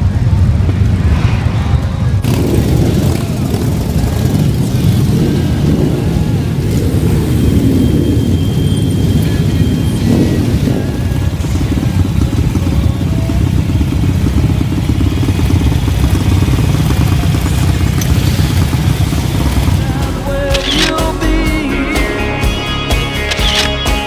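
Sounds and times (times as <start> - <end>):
motorcycle engines throbbing: 0.0 - 24.0.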